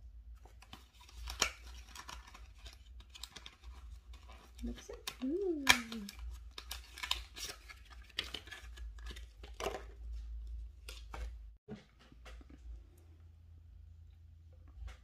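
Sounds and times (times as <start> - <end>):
cardboard and plastic rustling: 0.4 - 12.7.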